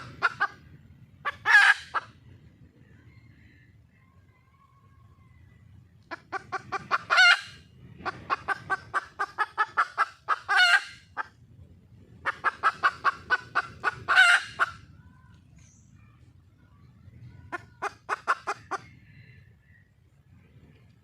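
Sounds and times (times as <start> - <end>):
hen clucking and calling: 0.0 - 20.8.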